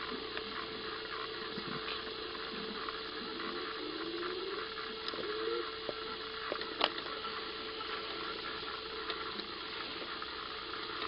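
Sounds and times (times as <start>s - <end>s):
faint hum tone: 0.0s - 11.0s
steady hiss: 0.0s - 11.0s.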